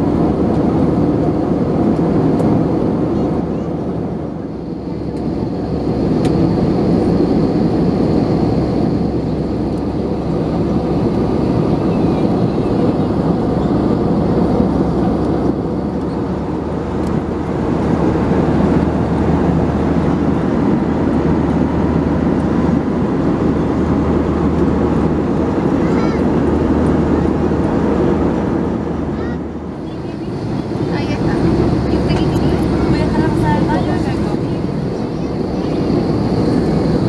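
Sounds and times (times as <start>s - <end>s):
airflow rushing in aircraft cabin: 0.0s - 37.0s
jet engines: 0.0s - 37.0s
steady low hum: 0.0s - 37.0s.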